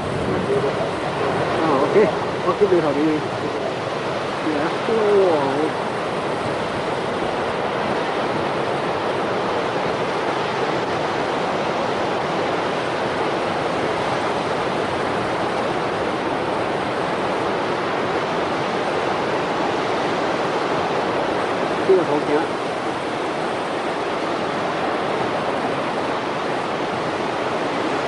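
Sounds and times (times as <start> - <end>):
waves breaking over rocks: 0.0 - 28.0.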